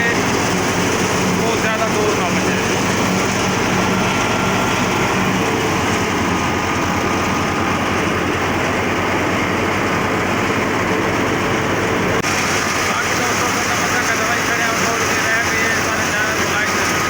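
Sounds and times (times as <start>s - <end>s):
threshing drum running: 0.0s - 17.0s
tractor engine: 0.0s - 17.0s.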